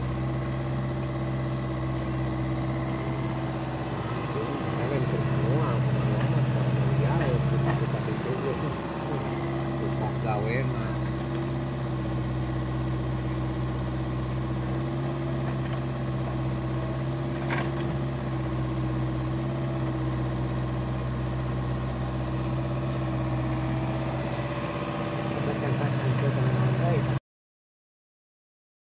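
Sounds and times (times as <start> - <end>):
excavator diesel engine running: 0.0 - 27.2.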